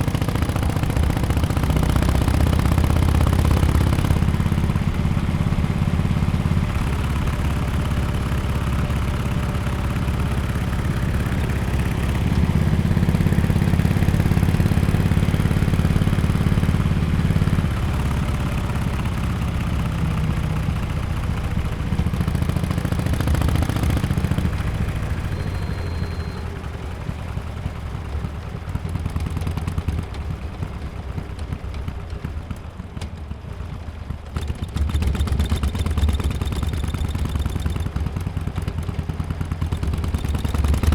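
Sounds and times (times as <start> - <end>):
motorcycle exhaust while riding: 0.0 - 40.9.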